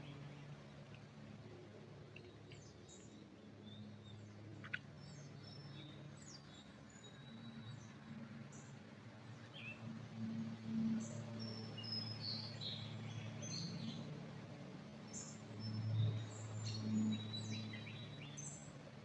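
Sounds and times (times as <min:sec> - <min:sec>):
faint songbirds chirping: 0:00.0 - 0:19.0.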